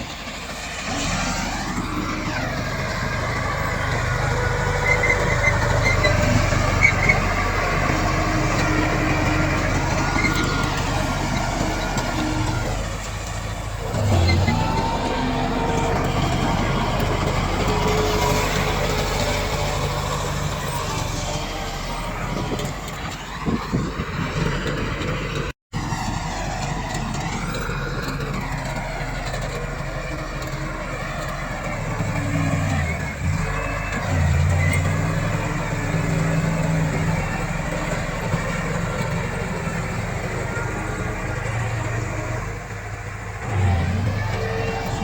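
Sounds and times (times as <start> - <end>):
bulldozer engine pushing soil: 0.0 - 45.0.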